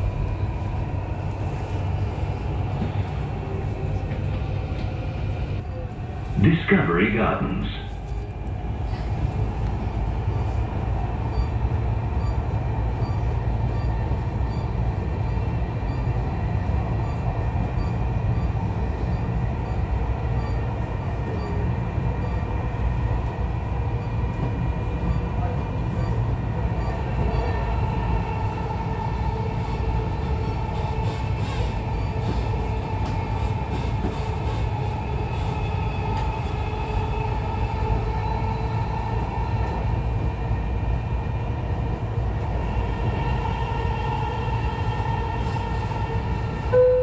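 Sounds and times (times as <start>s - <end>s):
train wheels rumbling: 0.0s - 47.0s.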